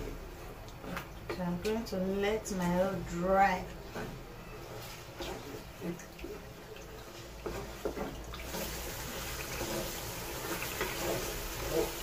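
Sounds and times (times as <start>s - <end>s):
wooden spoon scraping a pot: 0.0s - 12.0s
food sizzling in oil: 2.4s - 12.0s.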